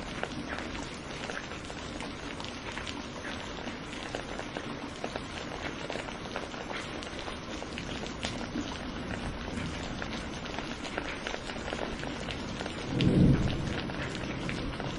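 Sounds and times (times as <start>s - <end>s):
raindrops ticking on surface: 0.0s - 14.9s
steady rain falling: 0.0s - 14.9s.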